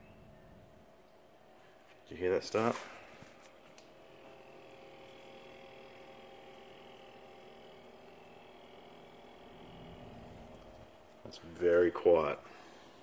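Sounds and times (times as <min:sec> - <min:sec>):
fridge compressor humming: 0:00.0 - 0:13.0.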